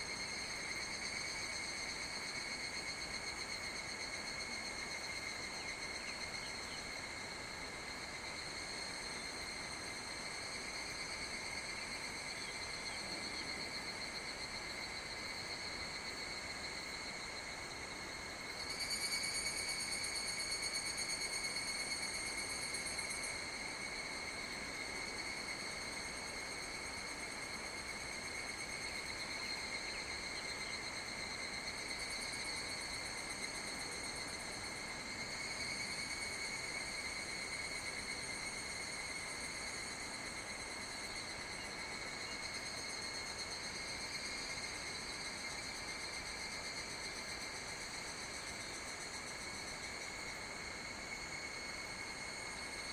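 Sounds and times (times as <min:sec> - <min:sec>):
insects buzzing trill: 0:00.0 - 0:52.9.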